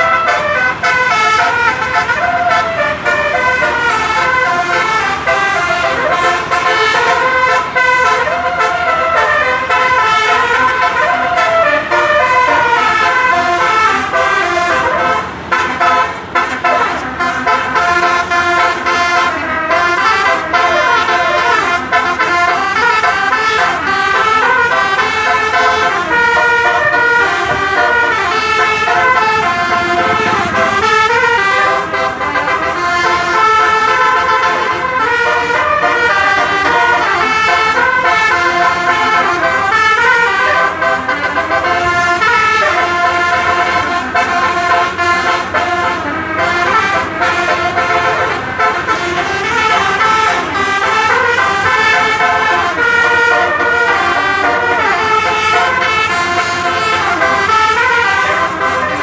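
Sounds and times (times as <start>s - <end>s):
multi-trumpet air horn tune: 0.0s - 59.0s.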